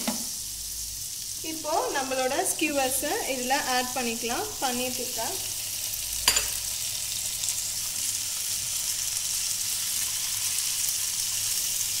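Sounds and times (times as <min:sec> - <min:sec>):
butter sizzling in a pan: 0:00.0 - 0:12.0.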